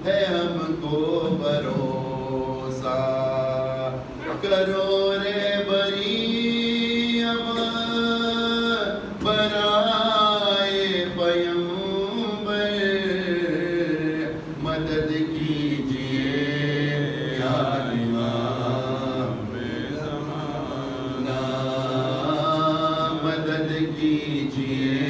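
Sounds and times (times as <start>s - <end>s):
man chanting unaccompanied: 0.0s - 25.0s.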